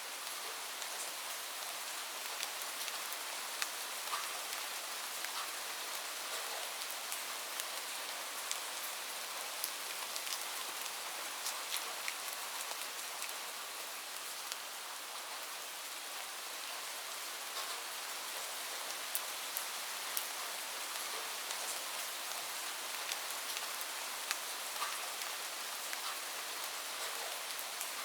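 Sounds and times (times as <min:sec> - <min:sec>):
light rain falling: 0:00.0 - 0:28.0.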